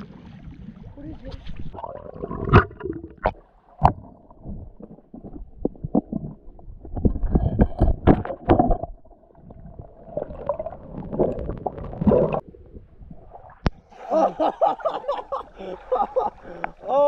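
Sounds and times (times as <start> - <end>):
underwater knocking and bubbling: 0.0 - 13.9
water splashing: 0.0 - 17.0.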